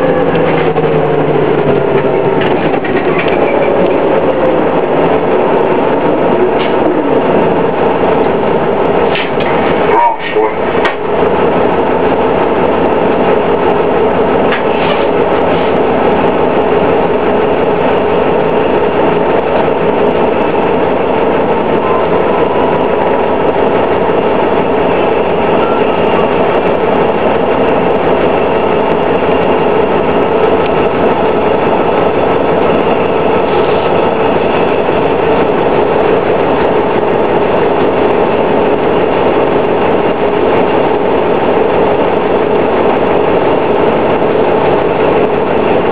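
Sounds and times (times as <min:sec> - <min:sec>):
bus engine running with whine: 0:00.0 - 0:45.9.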